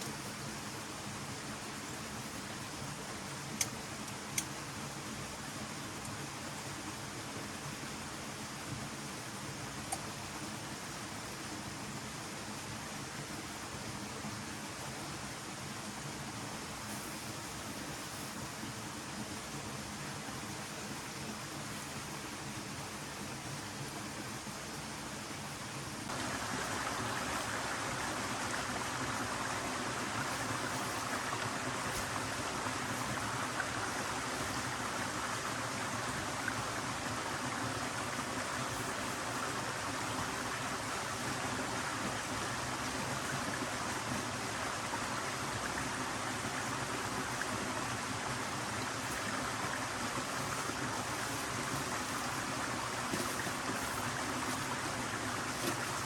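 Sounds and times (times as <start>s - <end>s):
stream of running water: 0.0s - 56.0s.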